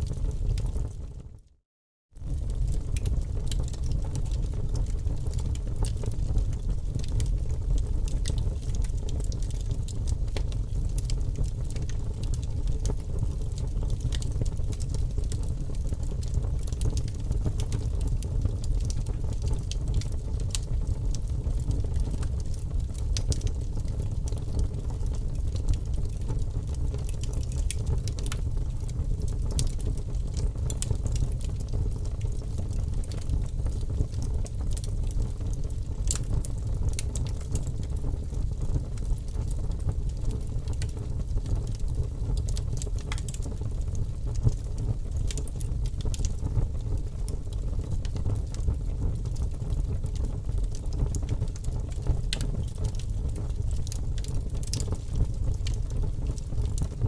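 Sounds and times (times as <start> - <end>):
small crackles and pops: 0.0 - 1.6, 2.2 - 57.0.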